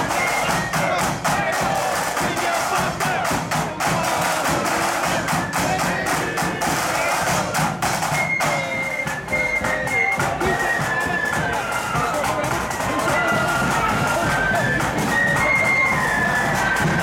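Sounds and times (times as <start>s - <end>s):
drum beats: 0.0s - 17.0s
marching band playing: 0.0s - 17.0s.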